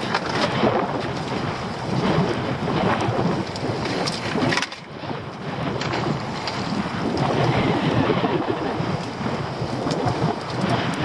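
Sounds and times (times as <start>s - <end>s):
sea washing: 0.0s - 11.0s
wind buffeting microphone: 0.0s - 11.0s.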